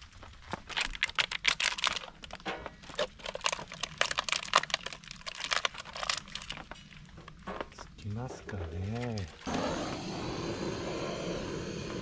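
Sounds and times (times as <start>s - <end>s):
kindling crackling and snapping: 0.0s - 12.0s.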